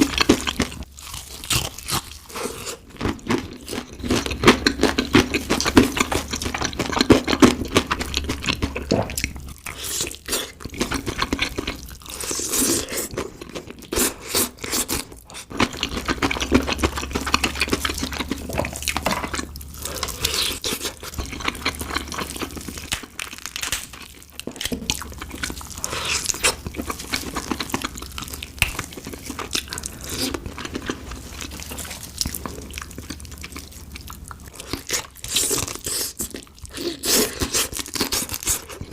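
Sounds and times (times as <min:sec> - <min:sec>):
crunching fried chicken: 0:00.0 - 0:38.9.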